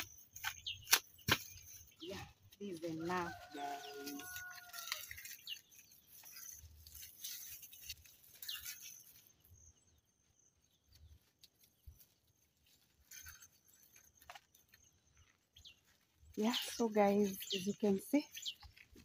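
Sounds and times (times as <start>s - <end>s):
dry fibre rustling: 0.0s - 9.6s, 10.5s - 19.0s.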